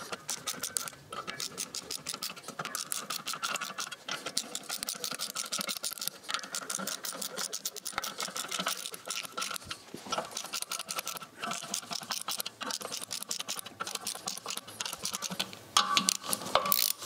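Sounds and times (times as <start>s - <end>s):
ratchet wrench clicking: 0.0s - 17.0s
squeaky springs compressing: 0.0s - 17.0s.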